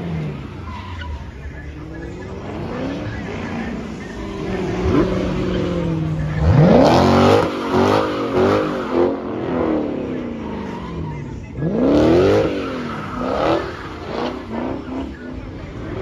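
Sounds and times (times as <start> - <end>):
car engine revving hard: 1.9 - 11.0, 11.6 - 16.0.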